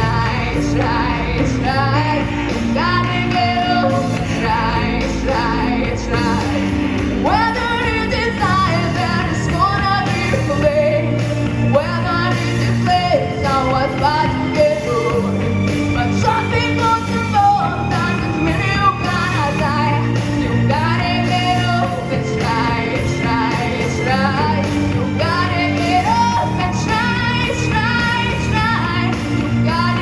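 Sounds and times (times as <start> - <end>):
pop backing track: 0.0 - 30.0
woman singing: 0.0 - 30.0.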